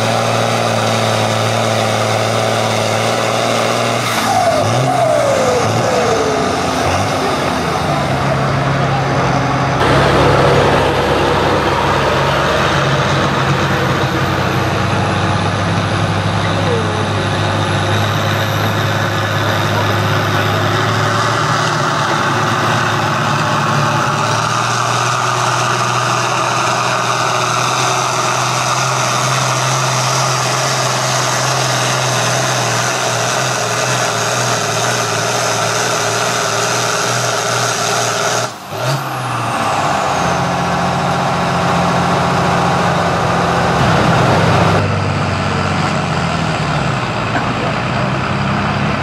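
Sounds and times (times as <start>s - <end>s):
tractor engine at full throttle: 0.0s - 49.0s.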